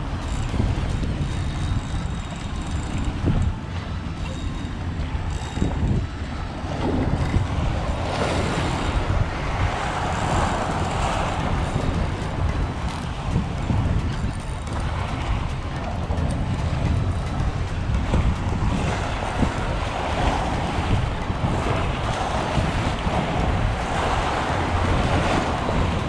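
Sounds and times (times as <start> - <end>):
waves washing against boat: 0.0 - 26.0
wind buffeting microphone: 0.0 - 26.0.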